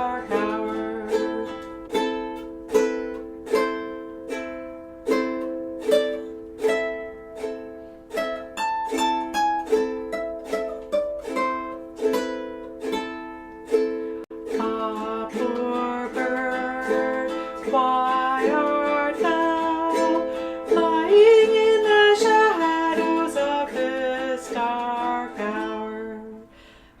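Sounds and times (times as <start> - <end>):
ukuleles playing slow tune: 0.0 - 26.9.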